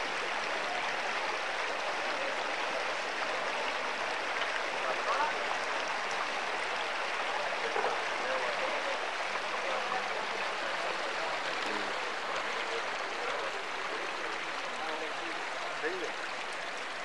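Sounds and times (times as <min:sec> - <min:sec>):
faint indistinct voices: 0:00.0 - 0:17.0.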